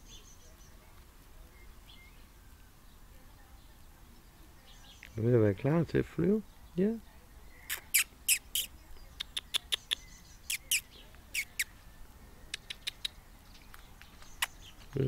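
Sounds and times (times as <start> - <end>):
sparrow chirping: 0.0 - 15.0.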